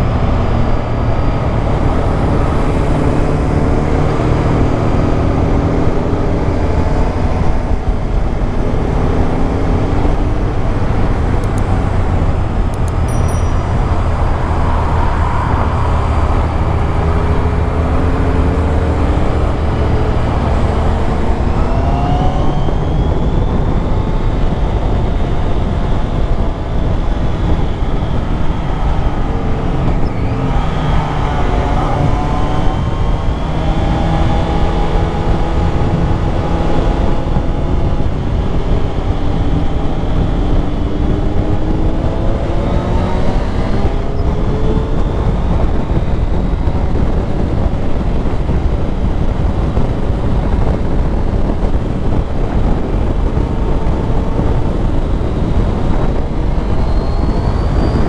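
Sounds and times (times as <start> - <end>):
motorcycle engine accelerating: 0.0 - 58.0
wind noise: 0.0 - 58.0.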